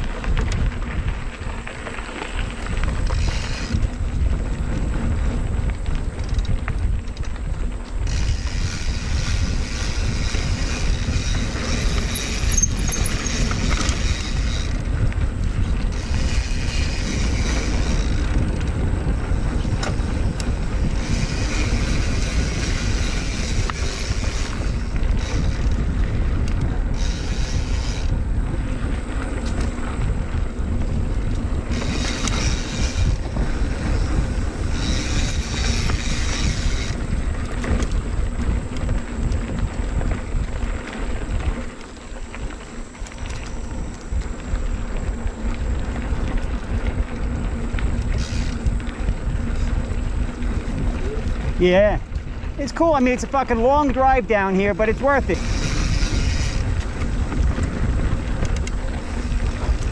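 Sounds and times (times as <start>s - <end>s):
bike rattle: 0.0s - 59.9s
bike tyres rumbling on dirt: 0.0s - 59.9s
wind rushing over microphone: 0.0s - 59.9s.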